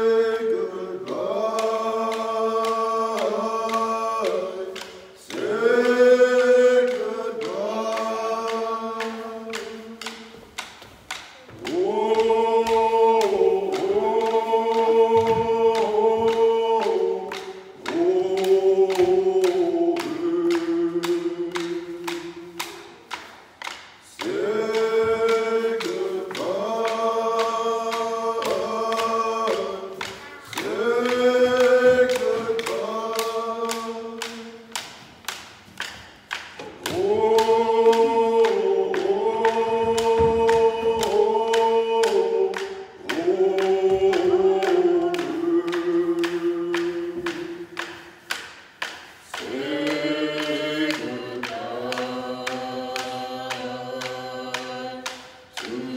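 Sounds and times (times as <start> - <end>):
group singing: 0.0 - 55.9
hand drums beating: 1.0 - 55.9.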